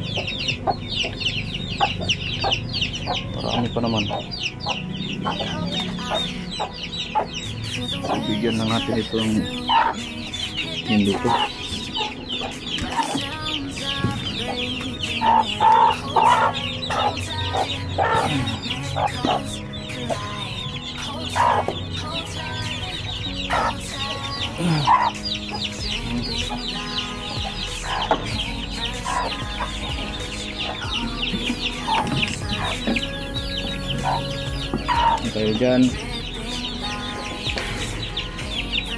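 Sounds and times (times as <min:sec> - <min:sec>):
hens clucking: 0:00.0 - 0:36.1
chicks peeping: 0:00.0 - 0:38.9.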